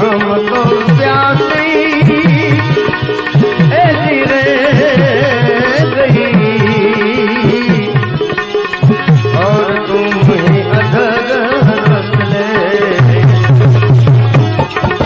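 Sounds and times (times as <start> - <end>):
tabla playing: 0.0 - 15.0.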